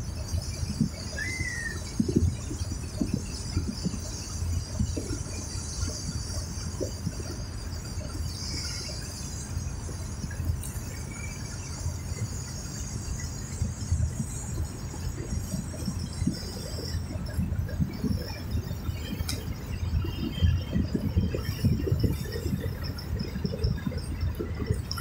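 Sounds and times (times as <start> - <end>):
wind buffeting microphone: 0.0 - 25.0
hiss of moving water: 0.1 - 25.0.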